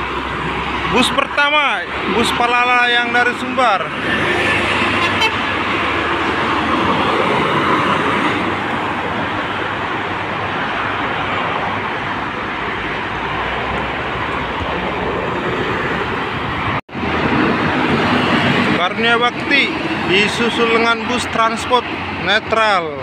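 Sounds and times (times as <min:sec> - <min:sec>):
road traffic passing at speed: 0:00.0 - 0:23.0.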